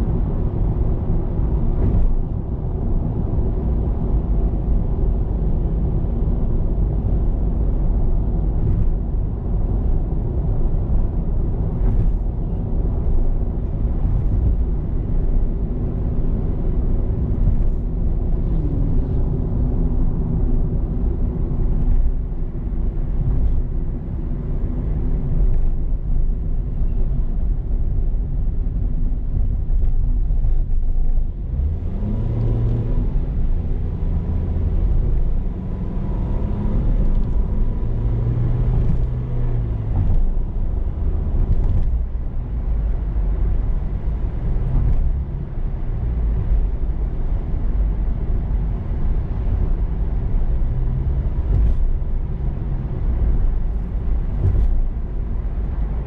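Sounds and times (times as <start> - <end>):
car engine hum: 0.0 - 56.0
tyre and road noise: 0.0 - 56.0.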